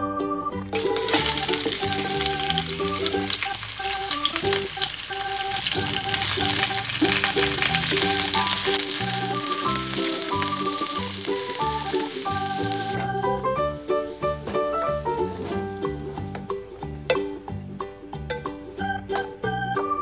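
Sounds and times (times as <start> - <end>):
background music: 0.0 - 20.0
onions sizzling in hot oil: 0.7 - 18.6.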